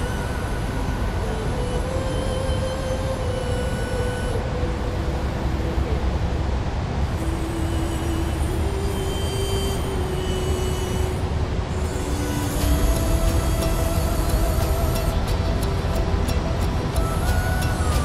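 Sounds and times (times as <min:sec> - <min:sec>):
faint background music: 0:00.0 - 0:18.0
waterfall roaring: 0:00.0 - 0:18.0.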